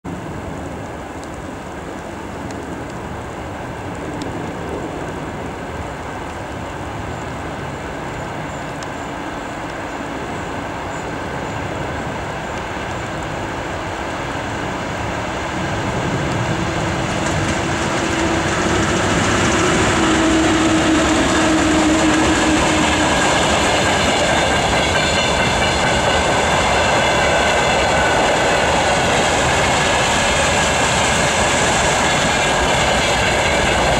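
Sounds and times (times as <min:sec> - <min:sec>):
freight train passing on rails: 0:00.0 - 0:33.9.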